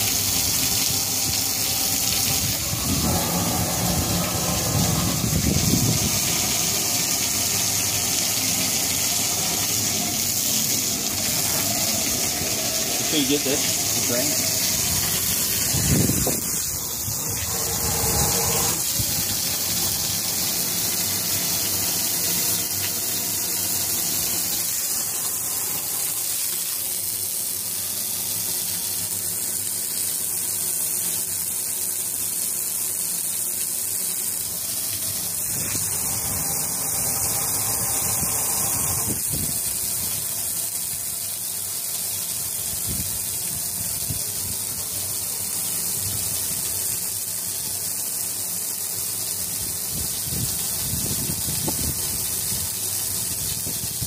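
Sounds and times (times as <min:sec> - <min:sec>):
water spraying onto boat deck: 0:00.0 - 0:54.0.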